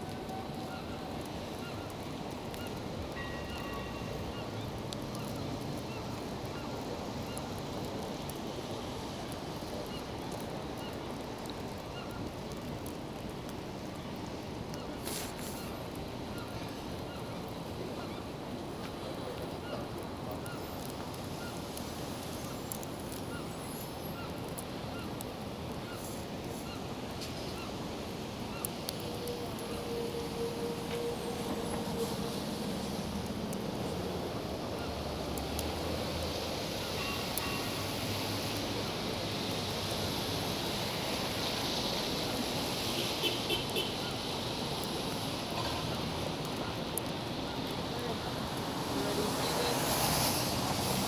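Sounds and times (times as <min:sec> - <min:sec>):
city traffic: 0:00.0 - 0:11.4, 0:14.3 - 0:51.0.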